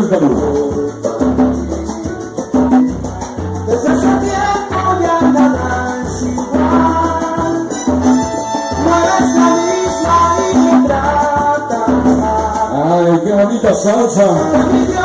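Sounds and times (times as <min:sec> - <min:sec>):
salsa song over sound system: 0:00.0 - 0:15.0.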